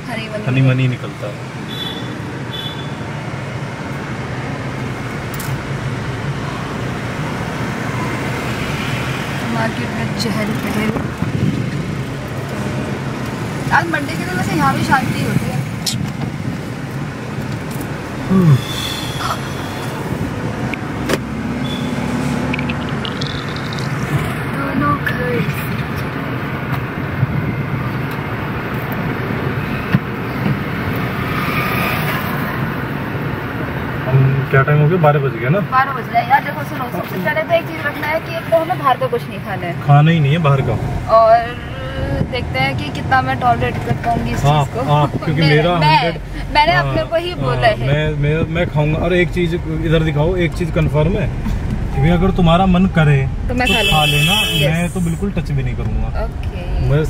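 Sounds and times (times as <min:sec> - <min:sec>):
car engine hum: 0:00.0 - 0:57.0
road noise: 0:00.0 - 0:57.0.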